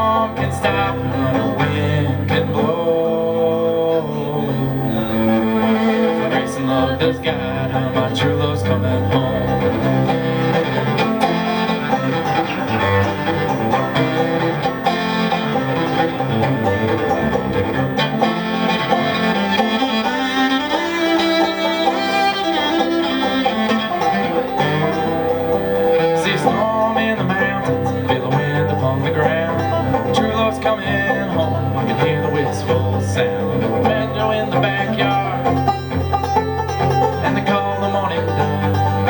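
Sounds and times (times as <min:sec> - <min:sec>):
acoustic folk string band: 0:00.0 - 0:39.0.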